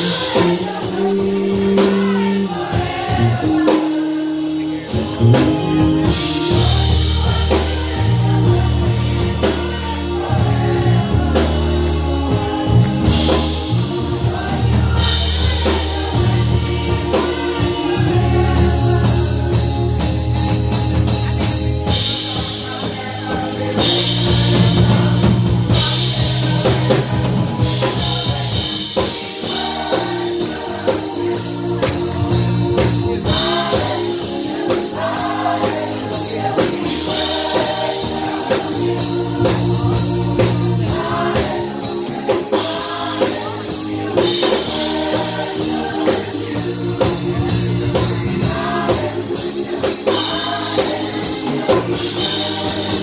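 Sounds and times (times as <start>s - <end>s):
bass line: 0.0s - 53.0s
choir singing gospel: 0.0s - 53.0s
drum kit: 0.0s - 53.0s
keyboard: 0.0s - 53.0s.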